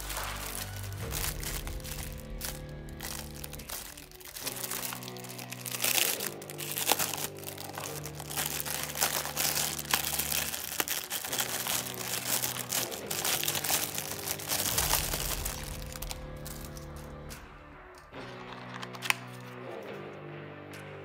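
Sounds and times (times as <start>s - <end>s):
plastic packaging crinkling: 0.0s - 17.2s, 18.1s - 19.7s
music with sustained chords: 0.0s - 21.0s.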